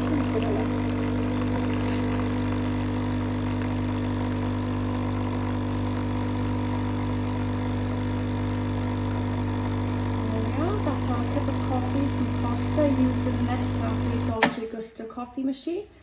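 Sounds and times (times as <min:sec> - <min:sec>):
coffee machine pump buzzing: 0:00.0 - 0:14.7.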